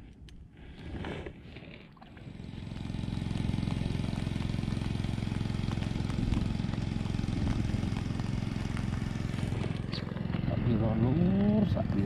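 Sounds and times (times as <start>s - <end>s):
small engine running: 2.0s - 12.0s.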